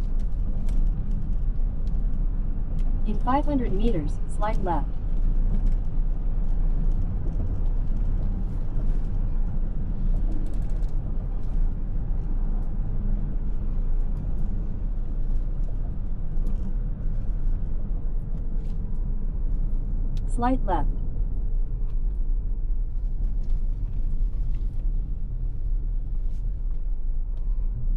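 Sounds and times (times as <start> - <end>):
road and tyre rumble in car: 0.0 - 27.9.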